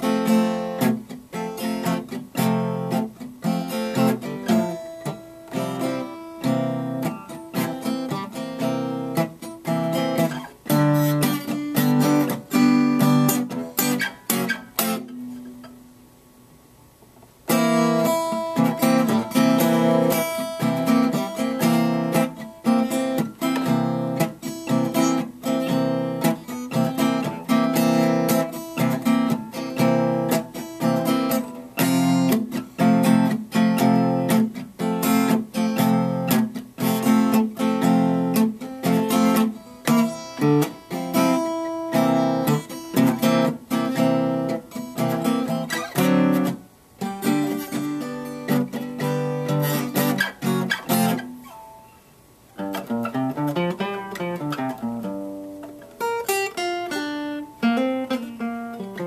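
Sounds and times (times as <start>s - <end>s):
acoustic guitar strumming blues: 0.0s - 16.2s, 17.1s - 59.0s.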